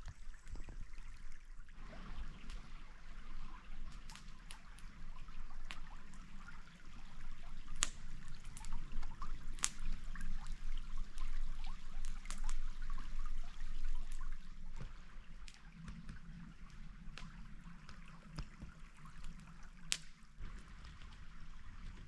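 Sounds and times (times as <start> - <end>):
stream water trickling: 0.0 - 22.0.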